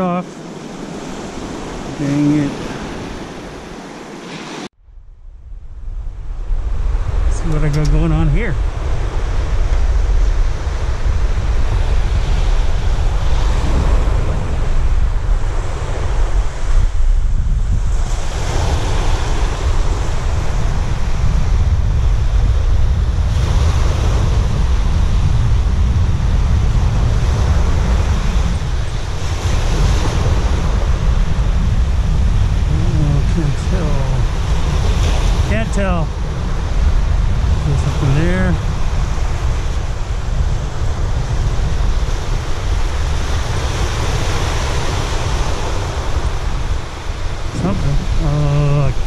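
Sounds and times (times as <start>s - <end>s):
surf breaking on beach: 0.0s - 4.7s, 6.1s - 49.0s
wind buffeting microphone: 0.0s - 49.0s.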